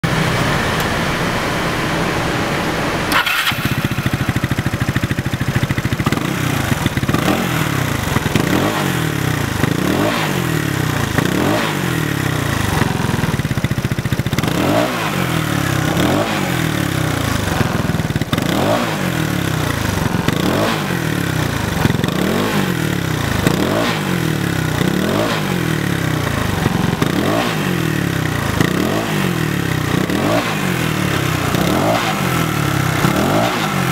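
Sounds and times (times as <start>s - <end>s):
motorcycle engine revving: 3.1s - 33.9s.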